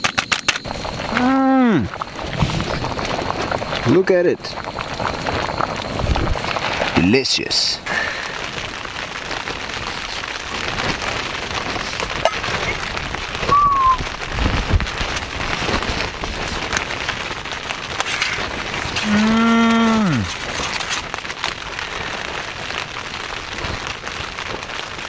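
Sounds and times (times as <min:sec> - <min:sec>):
rain pattering on tent fabric: 0:00.0 - 0:25.0.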